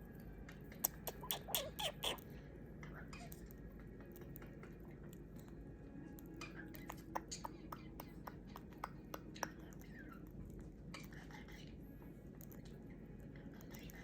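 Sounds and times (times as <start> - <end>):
bird beak crunching and clicking: 0.5 - 14.0.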